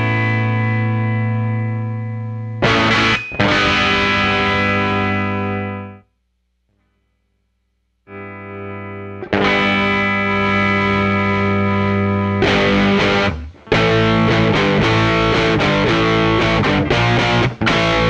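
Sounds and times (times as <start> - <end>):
overdriven electric guitar chords: 0.0 - 6.0, 8.0 - 18.0.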